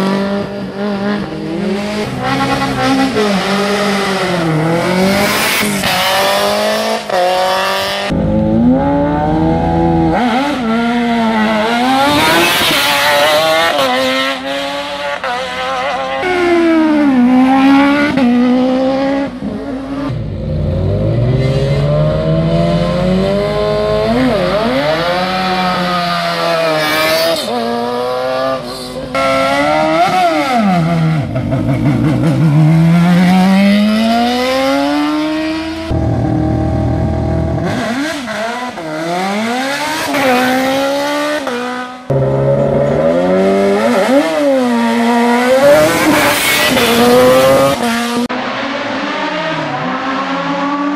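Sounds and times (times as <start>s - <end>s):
racing car engines revving: 0.0s - 50.9s.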